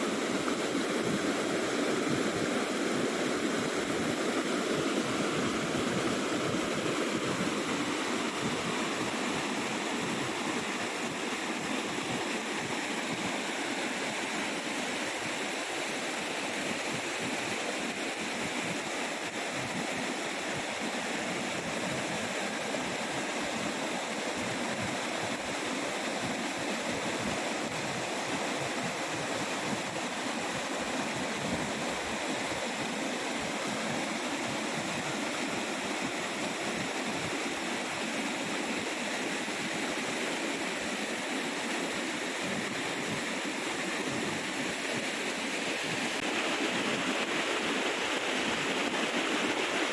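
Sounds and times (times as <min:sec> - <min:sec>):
waterfall pouring and splashing: 0:00.0 - 0:49.9.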